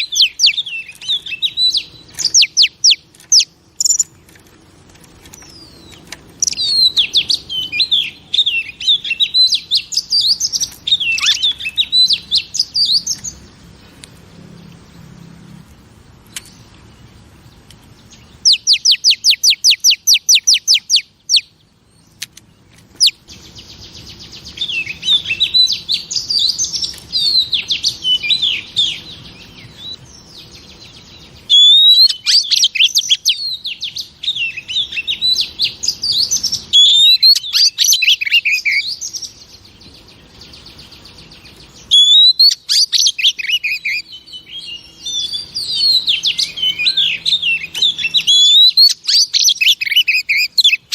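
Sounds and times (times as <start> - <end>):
bird singing whistles and trills: 0.0 - 4.2, 5.3 - 13.5, 18.0 - 22.0, 22.9 - 50.9.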